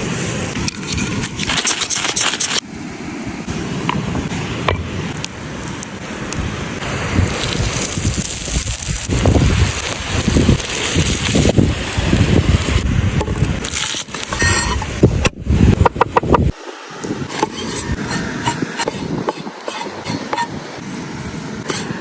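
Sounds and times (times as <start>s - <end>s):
wind buffeting microphone: 3.3s - 22.0s.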